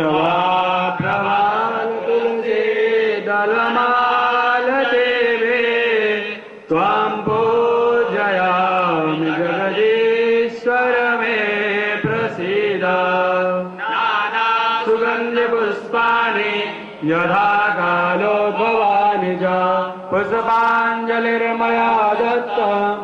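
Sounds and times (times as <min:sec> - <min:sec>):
men singing devotional chant: 0:00.0 - 0:23.0.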